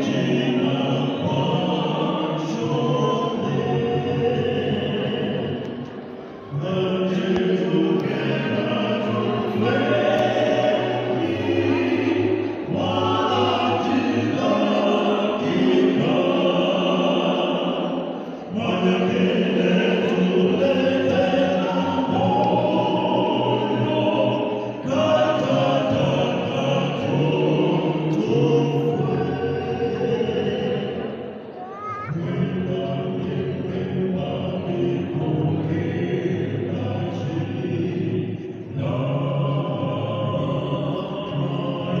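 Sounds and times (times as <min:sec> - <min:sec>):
vocal quartet singing in harmony: 0:00.0 - 0:42.0.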